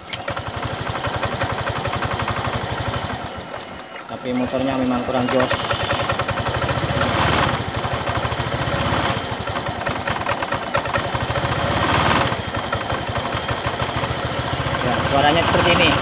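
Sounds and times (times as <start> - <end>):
scooter engine idling: 0.0 - 16.0.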